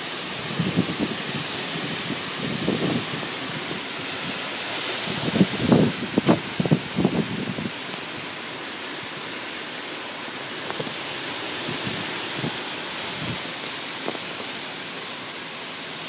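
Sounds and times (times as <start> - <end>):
strong wind rushing hiss: 0.0 - 16.0.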